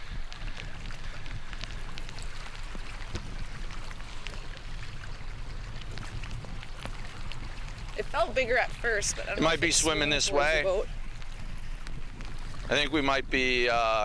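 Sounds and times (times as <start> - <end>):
low rumble: 0.0 - 14.0
rain falling: 0.0 - 14.0
raindrops ticking: 0.0 - 14.0.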